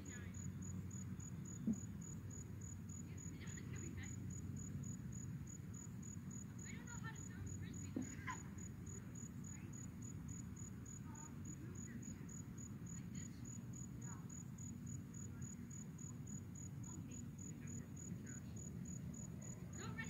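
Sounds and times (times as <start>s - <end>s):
cricket chirping: 0.0s - 20.0s
low outdoor rumble: 0.0s - 20.0s.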